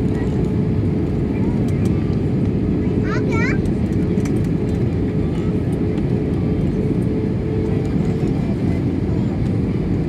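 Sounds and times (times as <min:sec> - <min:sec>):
airliner engines rumbling: 0:00.0 - 0:10.0.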